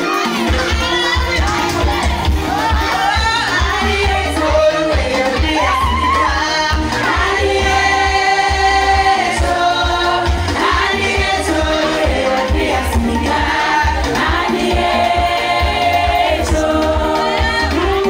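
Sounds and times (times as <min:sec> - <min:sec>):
amplified backing music: 0:00.0 - 0:18.0
woman singing gospel: 0:00.0 - 0:18.0.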